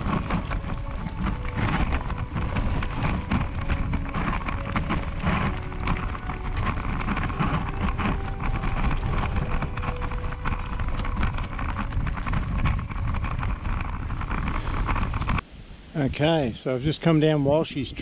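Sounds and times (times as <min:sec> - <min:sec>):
bicycle tyres crunching gravel: 0:00.0 - 0:15.4
bike rattling over bumps: 0:00.0 - 0:15.4
stones clattering: 0:00.0 - 0:15.4.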